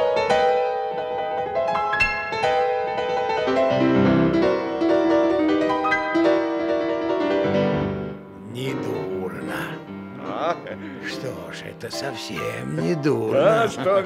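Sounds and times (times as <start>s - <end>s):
piano playing: 0.0s - 14.0s.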